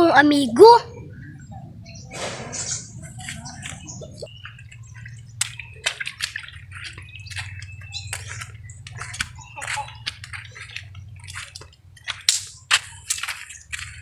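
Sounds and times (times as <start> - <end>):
low steady hum: 0.0 - 14.0
water sloshing and dripping: 0.0 - 14.0
water splashes: 0.0 - 14.0.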